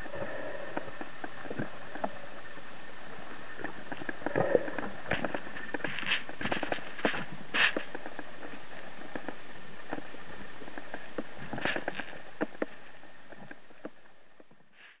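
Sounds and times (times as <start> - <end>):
steady underwater hiss: 0.0 - 15.0.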